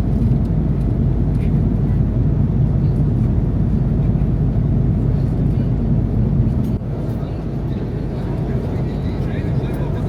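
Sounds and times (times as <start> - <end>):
airliner cabin noise: 0.0 - 10.0.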